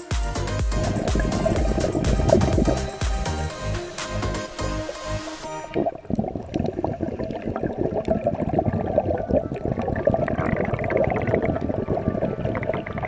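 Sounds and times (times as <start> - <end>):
underwater regulator bubbles burbling: 0.5 - 4.9, 5.6 - 13.0.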